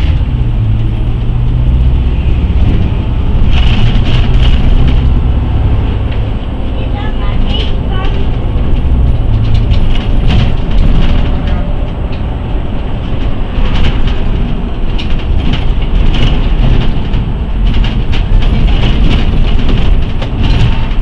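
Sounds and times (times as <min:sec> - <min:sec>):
bus body rattling: 0:00.0 - 0:21.0
bus engine and road rumble: 0:00.0 - 0:21.0.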